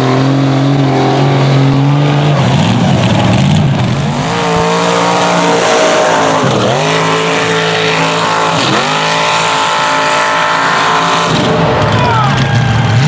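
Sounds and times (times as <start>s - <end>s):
vehicle engine revving hard: 0.0s - 13.0s.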